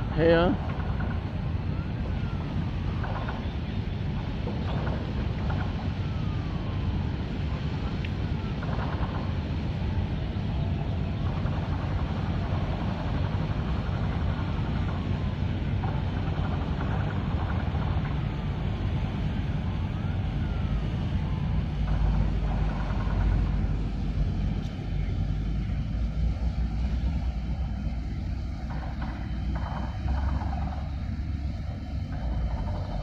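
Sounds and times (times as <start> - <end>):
ship engine rumble: 0.0 - 33.0.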